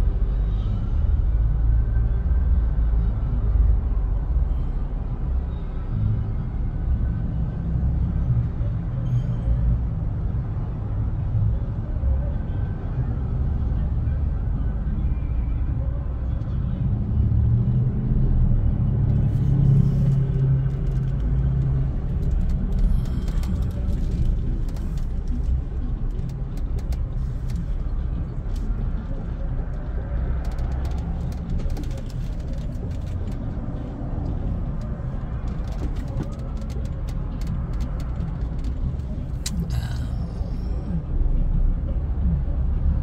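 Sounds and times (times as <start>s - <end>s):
car engine low rumble: 0.0s - 43.0s.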